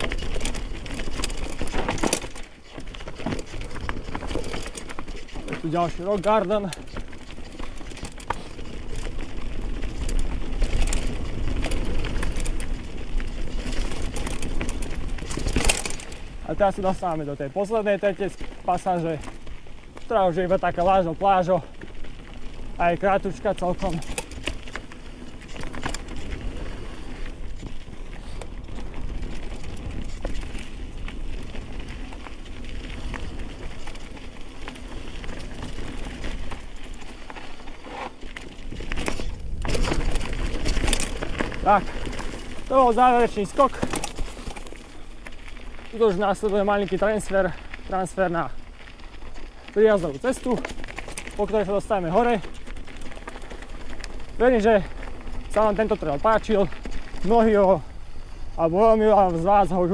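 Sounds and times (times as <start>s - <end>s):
bike rattling over rocks: 0.0s - 59.9s.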